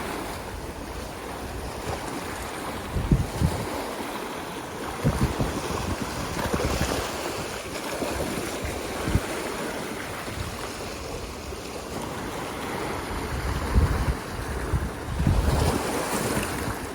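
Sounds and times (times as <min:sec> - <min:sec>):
ocean waves washing on shore: 0:00.0 - 0:16.9
wind buffeting microphone: 0:00.0 - 0:16.9.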